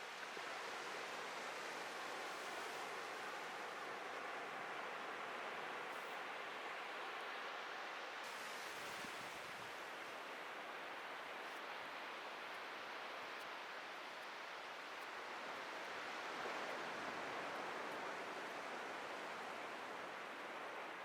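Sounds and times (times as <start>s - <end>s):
waves breaking on beach: 0.0s - 21.0s.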